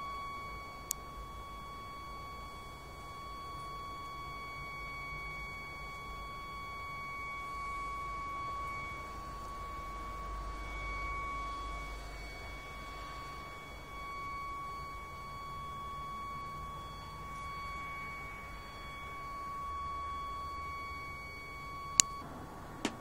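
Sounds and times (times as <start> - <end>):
high-pitched whine: 0.0 - 23.0
low background rumble: 0.0 - 23.0.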